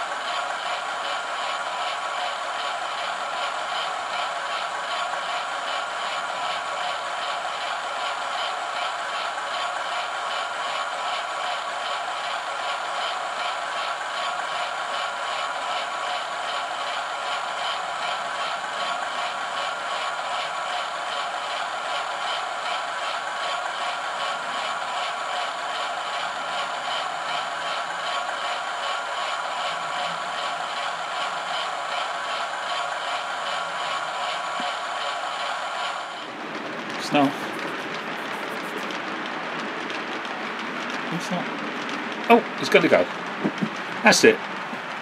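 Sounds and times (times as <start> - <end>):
model train diesel engine sound: 0.0 - 45.0.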